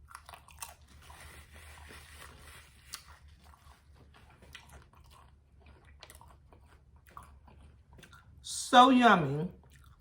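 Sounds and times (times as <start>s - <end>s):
person chewing food: 0.0s - 8.4s, 9.6s - 10.0s.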